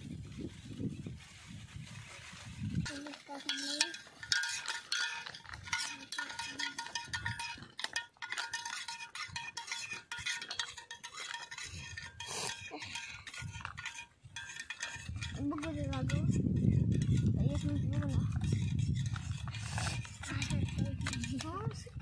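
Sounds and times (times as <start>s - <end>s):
pot ringing: 2.9s - 21.7s
metal spoon clinking in steel pot: 2.9s - 22.0s.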